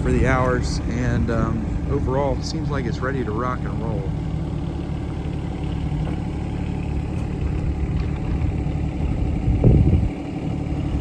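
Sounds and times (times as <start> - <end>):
diesel excavator engine idling: 0.0 - 11.0.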